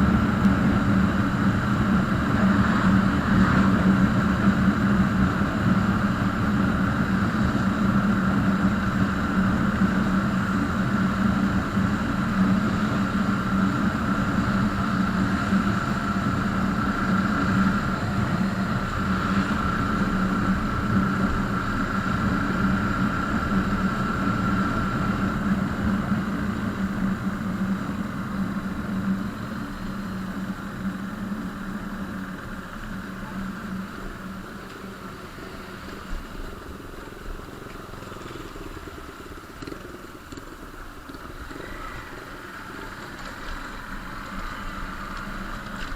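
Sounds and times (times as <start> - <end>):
steady whine: 0.0 - 45.9
vehicle engine running: 0.0 - 45.9.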